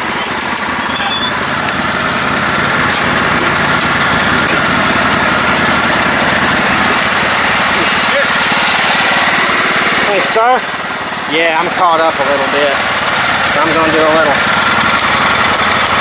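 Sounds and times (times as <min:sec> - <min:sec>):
lawn tractor engine running: 0:00.0 - 0:16.0.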